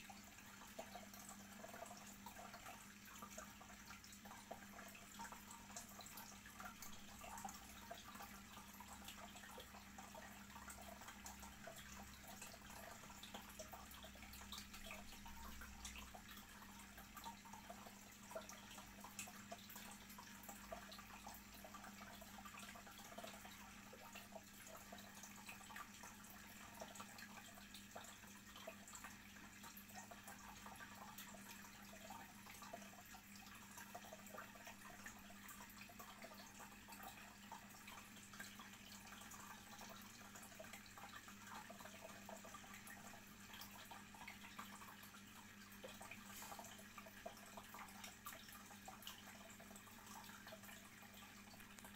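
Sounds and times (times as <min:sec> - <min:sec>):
aquarium water trickling and bubbling: 0:00.0 - 0:51.9
fine water drips: 0:00.0 - 0:51.9.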